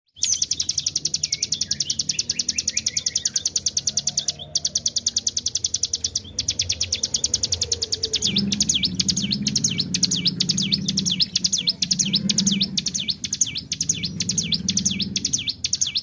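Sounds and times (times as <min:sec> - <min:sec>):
bird singing rapid trill: 0:00.1 - 0:16.0.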